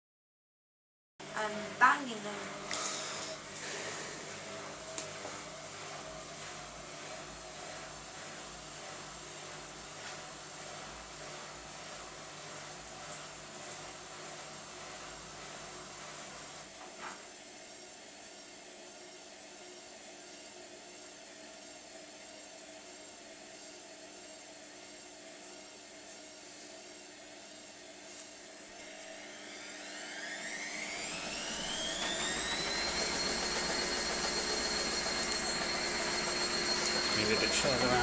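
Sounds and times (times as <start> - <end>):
washing machine running: 1.2 - 38.0
washing machine spin whine: 1.2 - 38.0.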